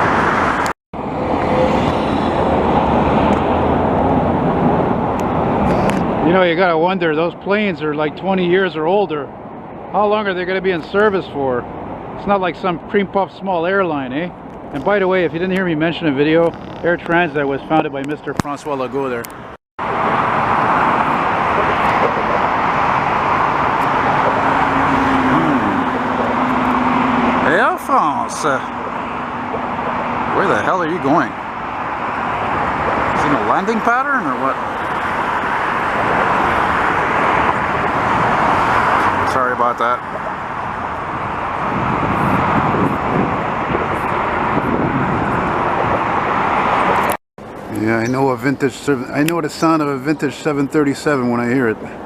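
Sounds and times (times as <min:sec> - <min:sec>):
highway traffic: 0:00.0 - 0:52.0.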